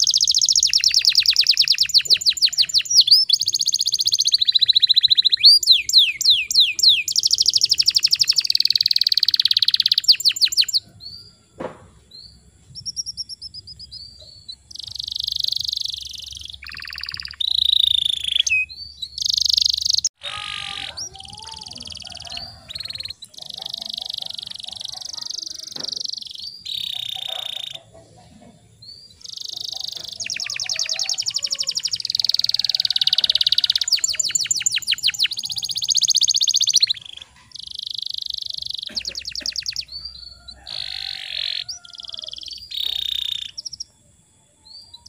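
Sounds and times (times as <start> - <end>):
canary singing trills: 0.0 - 45.0.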